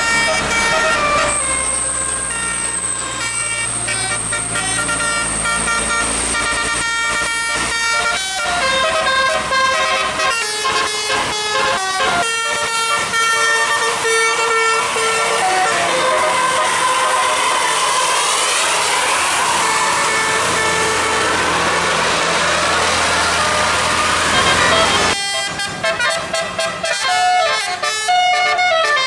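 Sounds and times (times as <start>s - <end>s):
low engine rumble: 0.0s - 27.1s
musical air horn: 0.0s - 29.0s.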